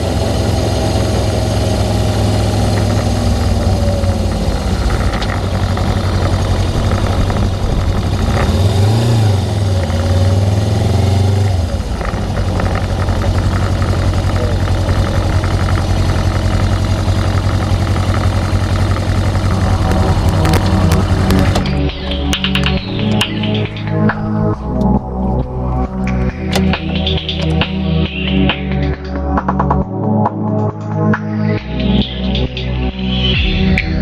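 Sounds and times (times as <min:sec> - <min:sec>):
motorcycle engine running: 0:00.0 - 0:30.8.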